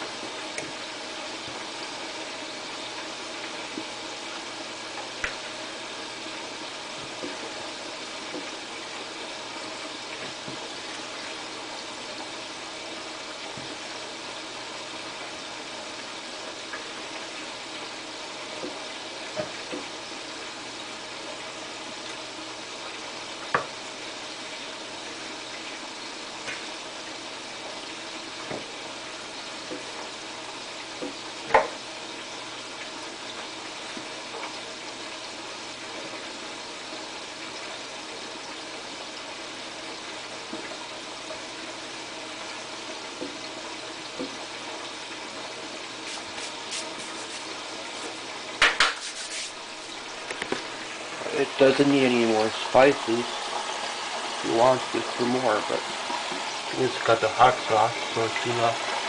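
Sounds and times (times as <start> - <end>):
chicken frying in hot oil: 0.0 - 59.0.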